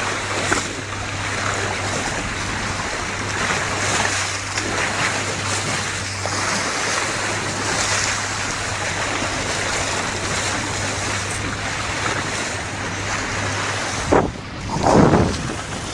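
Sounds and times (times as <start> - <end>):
boat engine hum: 0.0 - 15.9
water and wind rushing: 0.0 - 15.9.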